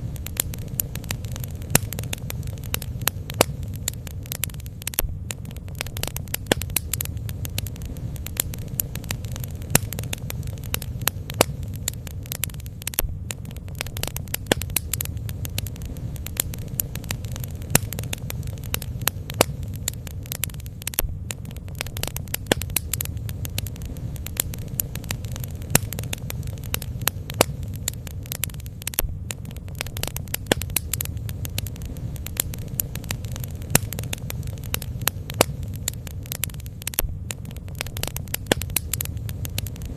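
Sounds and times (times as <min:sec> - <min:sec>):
bonfire rumble: 0:00.0 - 0:39.9
fire crackling and popping: 0:00.0 - 0:39.9.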